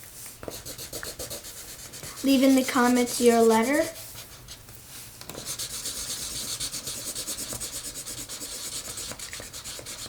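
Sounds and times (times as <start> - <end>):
scribbling strokes on paper: 0.5 - 4.6, 5.4 - 10.0.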